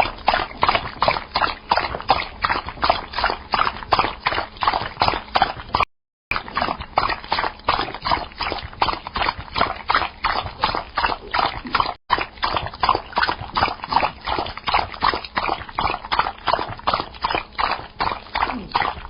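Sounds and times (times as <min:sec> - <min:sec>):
dog lapping water: 0:00.0 - 0:19.0.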